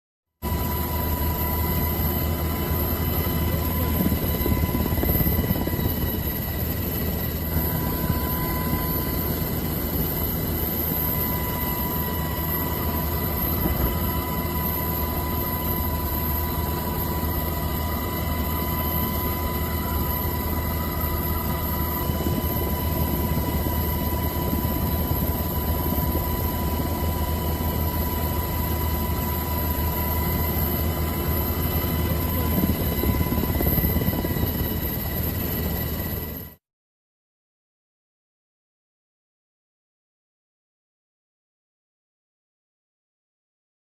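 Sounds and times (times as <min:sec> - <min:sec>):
engine drone with high whine: 0:00.4 - 0:36.5.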